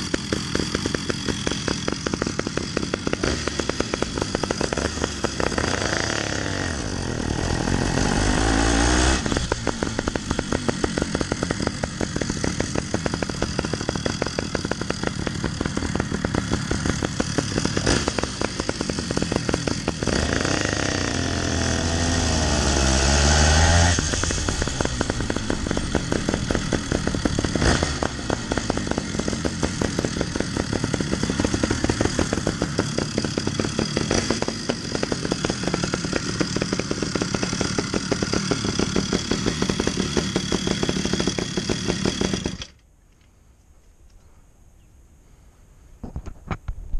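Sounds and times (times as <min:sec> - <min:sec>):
two-stroke bicycle engines popping: 0:00.0 - 0:43.3.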